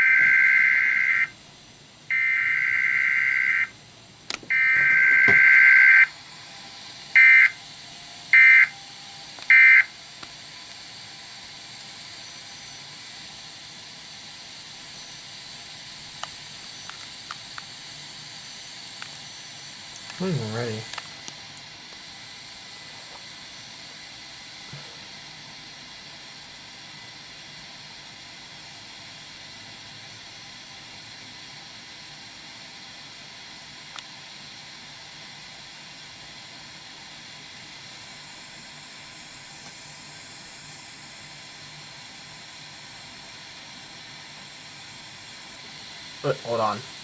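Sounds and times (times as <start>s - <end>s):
steady electronic hiss: 0.0s - 47.0s.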